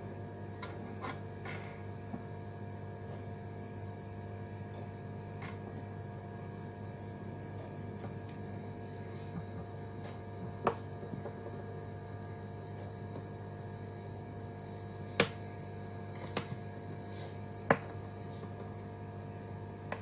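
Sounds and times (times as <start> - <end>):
power supply hum and fan: 0.0 - 20.0.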